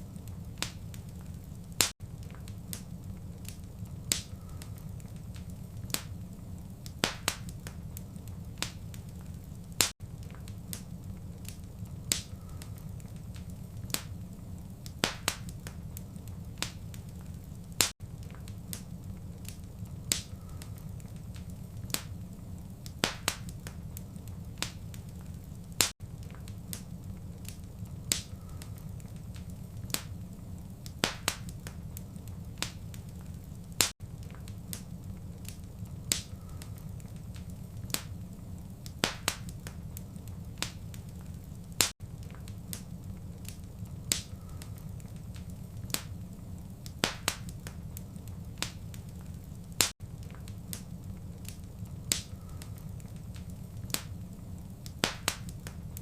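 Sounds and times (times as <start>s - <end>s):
steady low rumble: 0.0s - 54.9s
wood fire crackling and popping: 0.0s - 56.0s.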